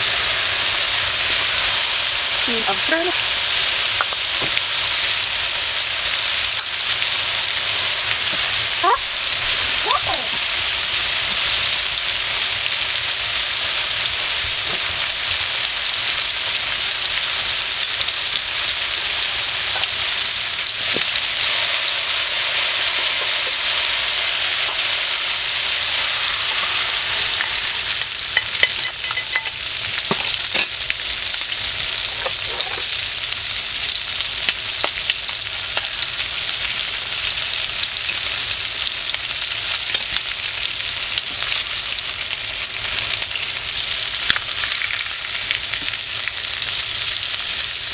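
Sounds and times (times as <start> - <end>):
chicken frying in hot oil: 0.0 - 47.9.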